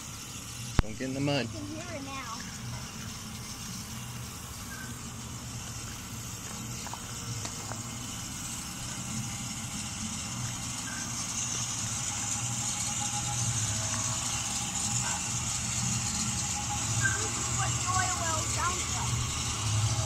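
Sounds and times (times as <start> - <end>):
high steady hiss: 0.0 - 20.0
pumpjack low mechanical hum: 0.0 - 20.0.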